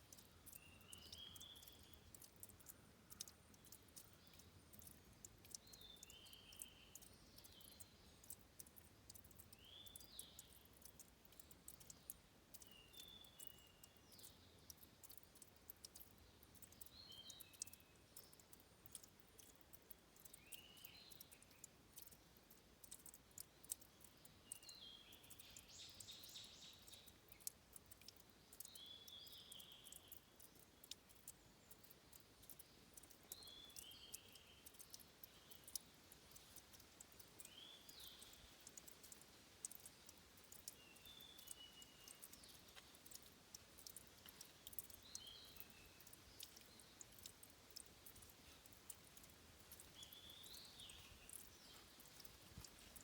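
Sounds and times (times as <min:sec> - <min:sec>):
clicking water drips: 0:00.0 - 0:53.0
small bird chirping: 0:00.0 - 0:53.0
water trickling: 0:00.0 - 0:53.0.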